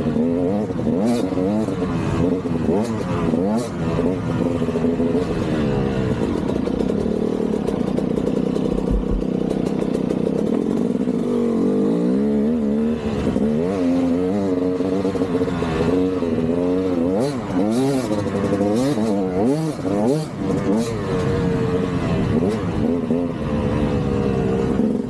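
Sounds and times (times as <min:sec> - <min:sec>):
engine clatter: 0:00.0 - 0:25.0
two-stroke engine revving: 0:00.0 - 0:25.0.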